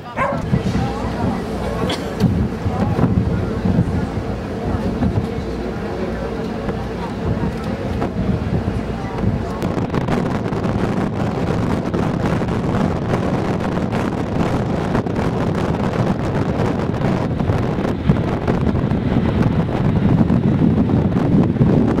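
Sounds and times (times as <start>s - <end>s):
wind blowing across microphone: 0.0s - 22.0s.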